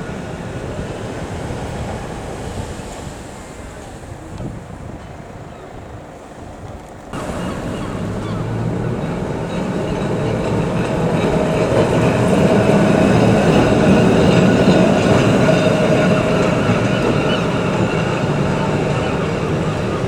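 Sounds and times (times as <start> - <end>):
electric tram on rails: 0.0 - 20.0.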